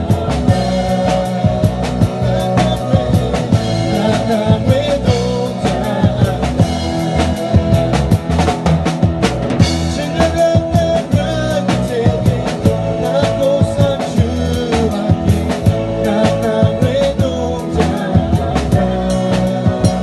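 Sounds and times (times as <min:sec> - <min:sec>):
drum kit hits: 0:00.0 - 0:20.0
live band playing worship song: 0:00.0 - 0:20.0.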